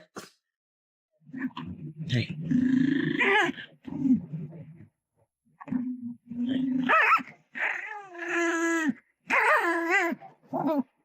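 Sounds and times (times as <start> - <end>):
dog grumbling and whining: 1.2 - 4.9, 5.6 - 11.0.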